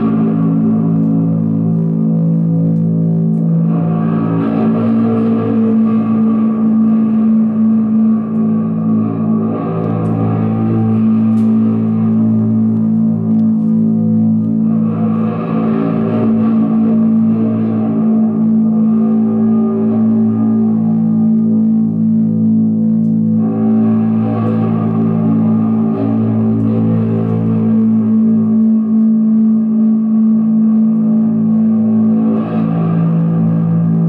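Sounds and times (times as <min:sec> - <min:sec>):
low drone of held tones: 0:00.0 - 0:34.0.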